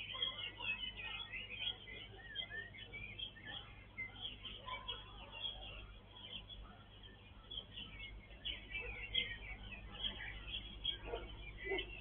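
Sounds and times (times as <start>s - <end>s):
faint steady low hum: 0.0s - 12.0s
small birds chirping and twittering: 0.0s - 12.0s.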